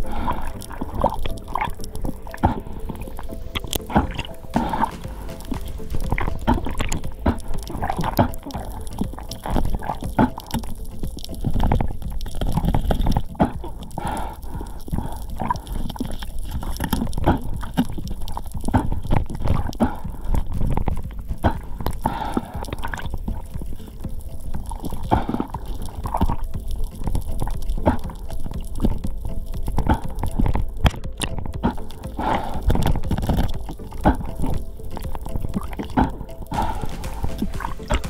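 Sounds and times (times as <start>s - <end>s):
underwater rush of water: 0.0s - 38.0s.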